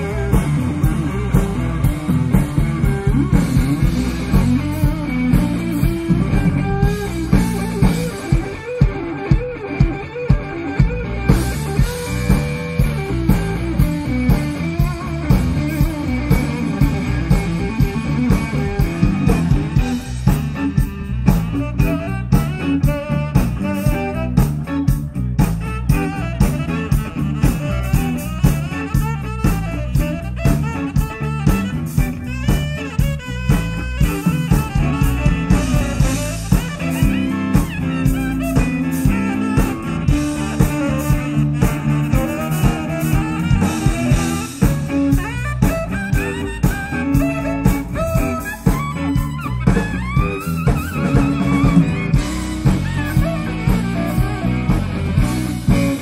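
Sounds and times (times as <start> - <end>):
drum kit beat: 0.0 - 56.0
electric guitar lines: 0.0 - 56.0.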